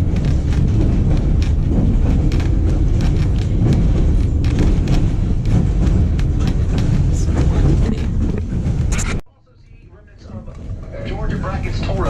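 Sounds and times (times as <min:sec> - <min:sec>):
train wheels clicking and rattling: 0:00.0 - 0:09.2, 0:09.9 - 0:12.0
train rumbling: 0:00.0 - 0:12.0.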